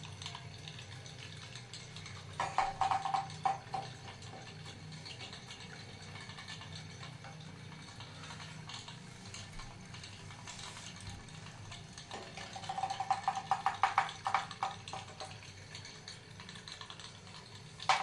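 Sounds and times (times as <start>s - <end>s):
faint water sound: 0.0s - 18.0s
toy steam boat buzzy ticking: 0.0s - 18.0s.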